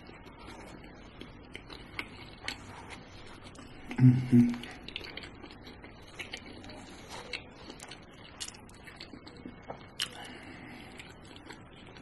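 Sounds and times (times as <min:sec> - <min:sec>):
wet chewing mouth clicks: 0:01.1 - 0:12.0.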